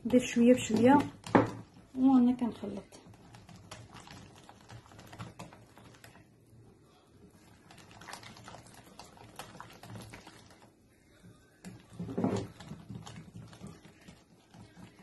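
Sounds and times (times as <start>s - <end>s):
utensil stirring batter in glass bowl: 0.0s - 15.0s.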